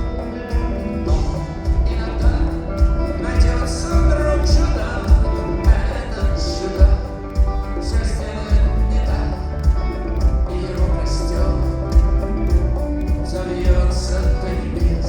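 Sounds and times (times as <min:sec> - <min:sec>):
drum hits: 0:00.0 - 0:15.0
heavy bass: 0:00.0 - 0:15.0
person singing: 0:00.0 - 0:15.0
rock band playing live: 0:00.0 - 0:15.0.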